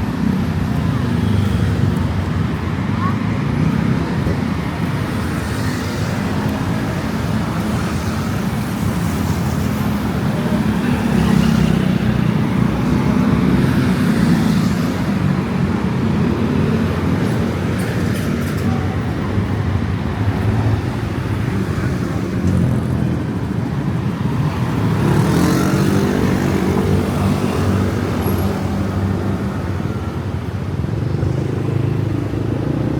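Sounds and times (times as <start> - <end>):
road traffic: 0.0 - 32.9
vehicle engines running close by: 0.0 - 32.9.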